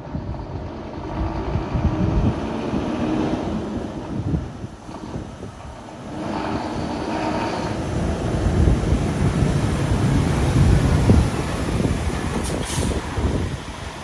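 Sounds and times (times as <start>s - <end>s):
diesel truck rumbling: 0.0s - 14.0s
wind noise: 0.0s - 14.0s.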